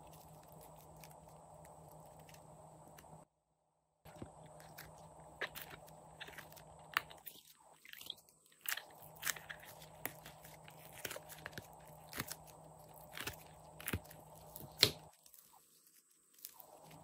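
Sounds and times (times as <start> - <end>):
clay clicks and crackles: 0.0 - 3.3, 4.1 - 17.0
faint steady hum: 0.0 - 17.0.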